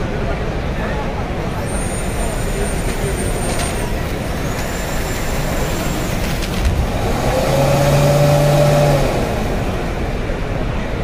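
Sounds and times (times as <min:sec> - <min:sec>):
crowded hall din: 0:00.0 - 0:11.0.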